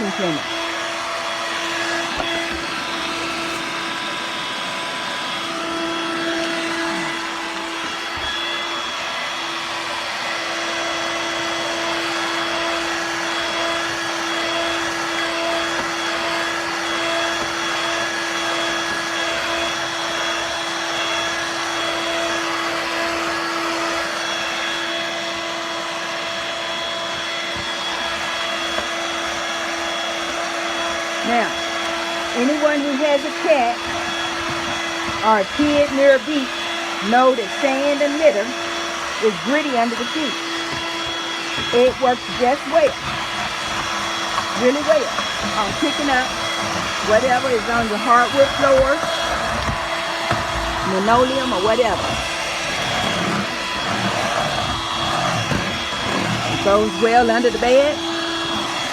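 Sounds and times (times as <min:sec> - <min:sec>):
stick vacuum running: 0:00.0 - 0:58.9.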